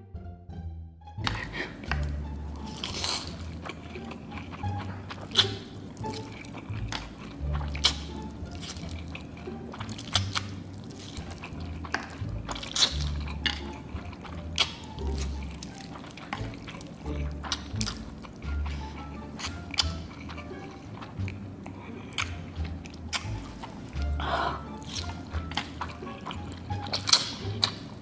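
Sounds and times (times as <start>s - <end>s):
light background music: 0.0s - 28.0s
noodles slurped: 1.2s - 28.0s.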